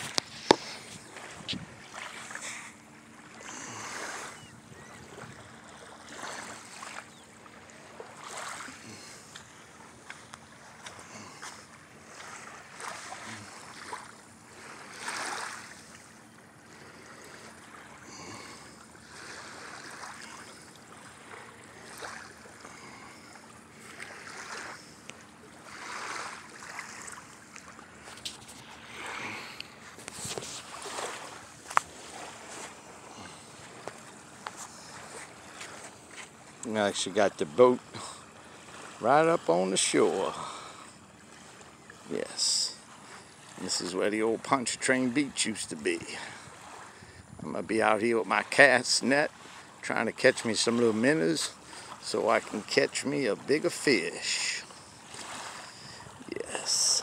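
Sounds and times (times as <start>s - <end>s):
faint steady hum: 0.0s - 57.0s
small waves lapping: 0.0s - 57.0s.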